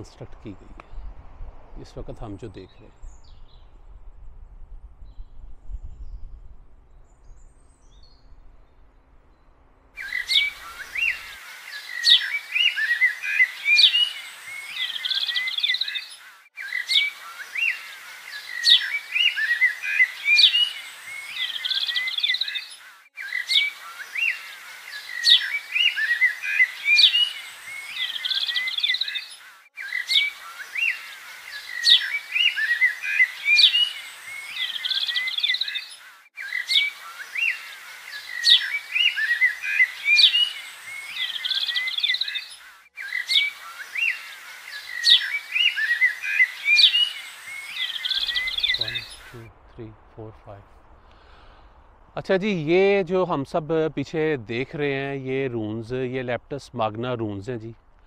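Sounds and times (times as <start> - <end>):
songbirds chirping: 1.8 - 58.0.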